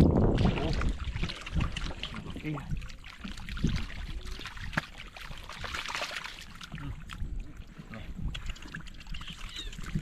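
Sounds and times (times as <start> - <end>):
water splashing and trickling: 0.0 - 10.0.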